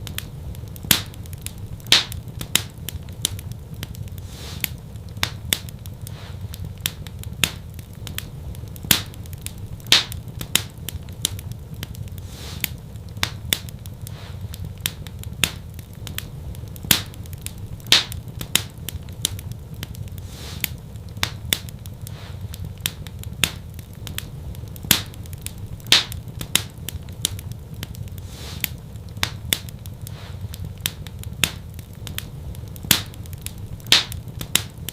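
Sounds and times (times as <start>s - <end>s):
fire crackling and popping: 0.0s - 34.9s
low steady rumble: 0.0s - 34.9s.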